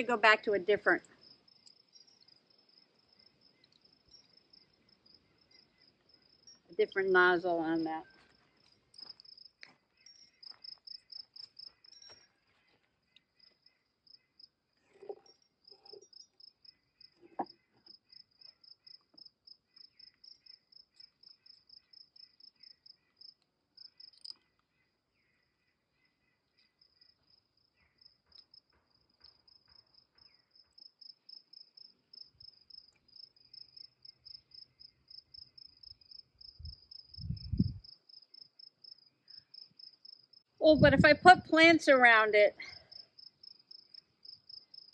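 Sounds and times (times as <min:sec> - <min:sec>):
crickets chirping: 0:00.0 - 0:24.5, 0:25.2 - 0:41.2, 0:42.7 - 0:44.9.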